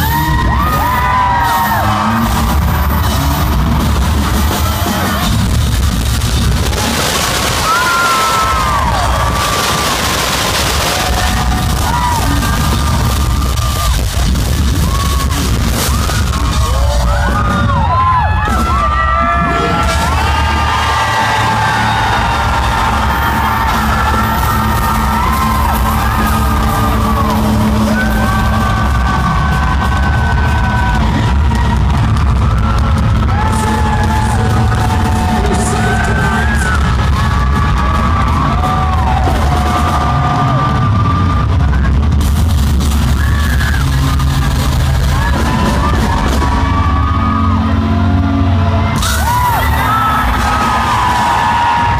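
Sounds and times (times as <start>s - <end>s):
heavy metal band playing live: 0.0s - 51.9s.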